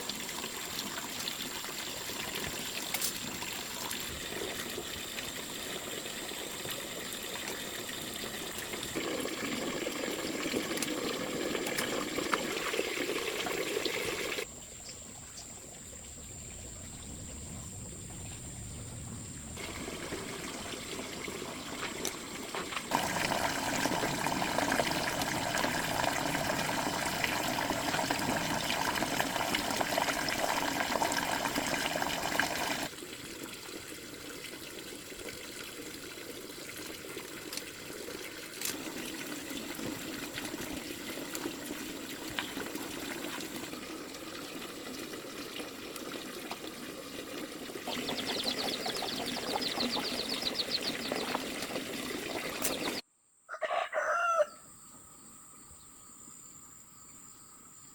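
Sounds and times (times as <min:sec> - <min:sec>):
water running and trickling: 0:00.0 - 0:14.5, 0:19.6 - 0:53.0.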